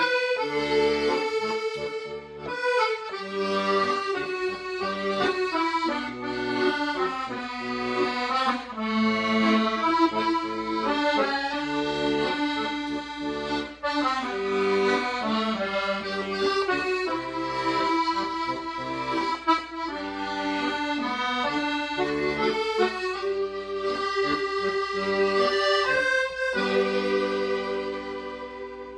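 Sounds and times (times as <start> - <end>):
accordion playing slow melody: 0.0 - 28.9.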